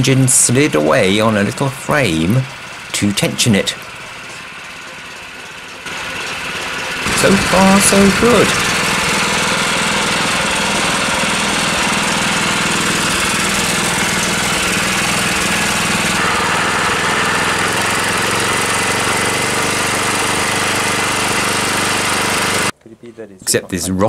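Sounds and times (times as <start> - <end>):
petrol engine running: 0.0 - 23.4.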